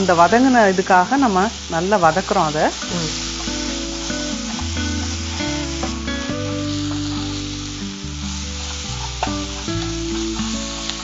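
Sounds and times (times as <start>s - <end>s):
background music: 0.0s - 11.0s
food sizzling in hot oil: 0.0s - 11.0s.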